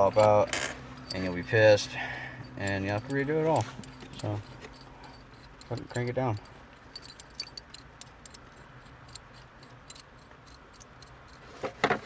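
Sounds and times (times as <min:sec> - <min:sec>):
metallic clicks of hand tools: 0:00.0 - 0:01.8, 0:02.4 - 0:12.0.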